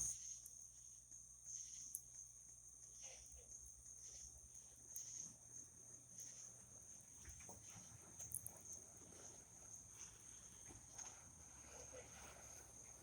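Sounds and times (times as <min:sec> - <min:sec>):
insects chirring: 0:00.0 - 0:11.1.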